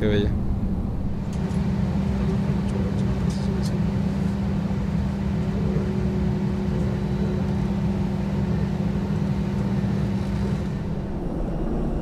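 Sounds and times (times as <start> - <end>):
aircraft cabin drone: 0.0 - 12.0.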